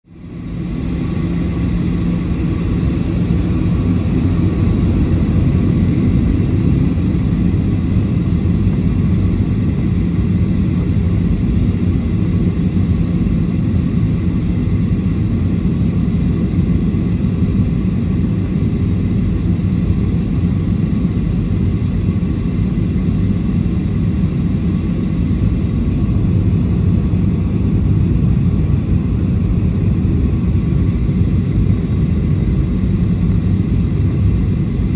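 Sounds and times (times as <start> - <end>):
airplane cabin drone: 0.0 - 34.9.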